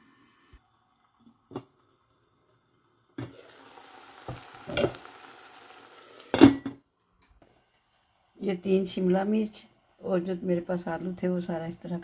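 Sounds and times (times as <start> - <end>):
vegetables sizzling in oil: 0.0 - 6.7, 7.4 - 12.0.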